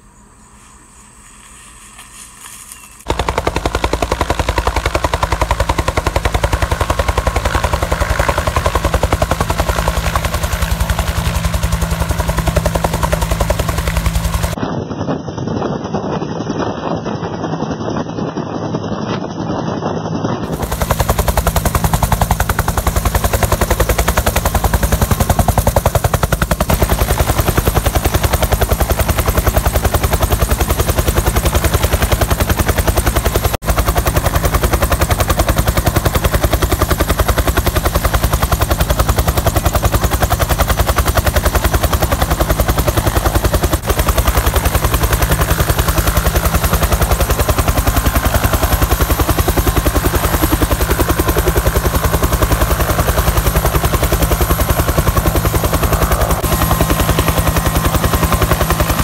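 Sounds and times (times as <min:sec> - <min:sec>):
turbine engine whine: 0:00.0 - 0:59.0
helicopter rotor beating: 0:01.1 - 0:59.0.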